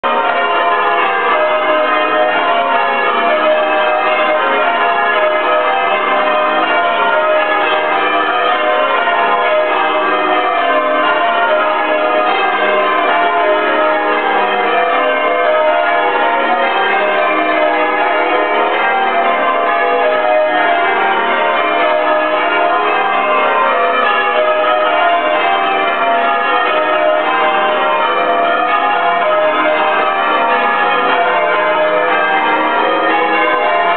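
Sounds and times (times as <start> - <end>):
church bells change ringing: 0.0 - 33.9.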